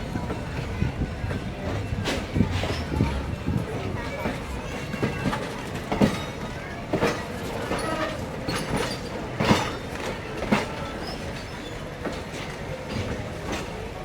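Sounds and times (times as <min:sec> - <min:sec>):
wheels clanking over rail joints: 0:00.0 - 0:13.9
train rumbling on track: 0:00.0 - 0:14.0.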